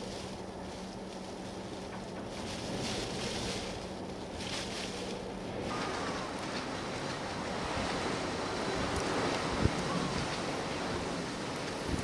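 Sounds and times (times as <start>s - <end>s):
strong gusting wind: 0.0s - 12.0s.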